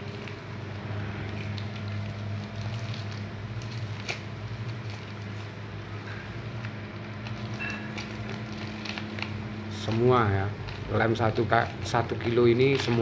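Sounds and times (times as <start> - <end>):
plastic crinkles: 0.0 - 13.0
steady low hum: 0.0 - 13.0
wet squishes: 0.0 - 13.0.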